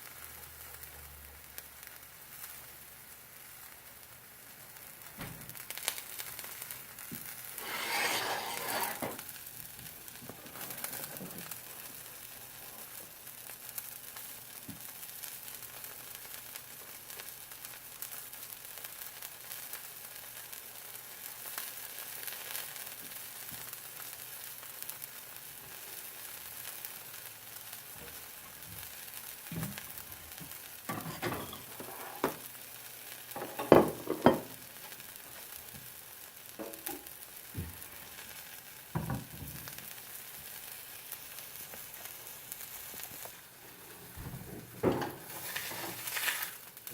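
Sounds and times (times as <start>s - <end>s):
food sizzling in a frying pan: 0.0s - 46.9s.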